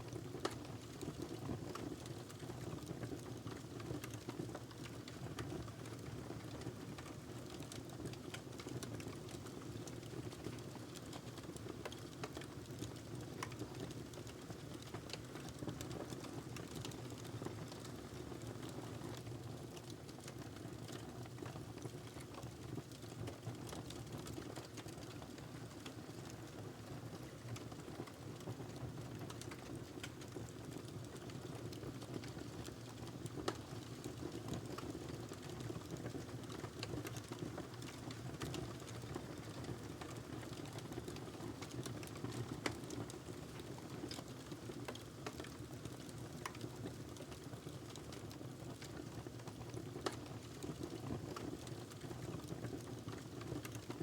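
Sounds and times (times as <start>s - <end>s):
fire crackles and pops: 0.1s - 54.0s.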